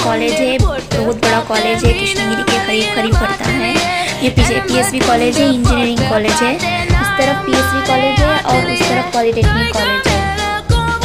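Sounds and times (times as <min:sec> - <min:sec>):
bass drum beat: 0:00.0 - 0:11.0
person singing: 0:00.0 - 0:11.0.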